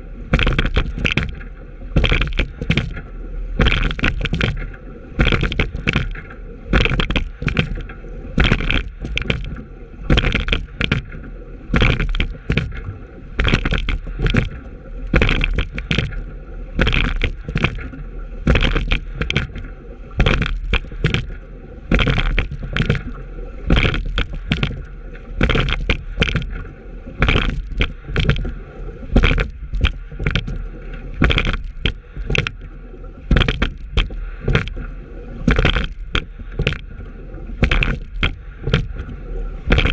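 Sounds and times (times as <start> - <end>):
oars clunking and splashing: 0.0 - 39.9
rush of water and wind: 0.0 - 39.9.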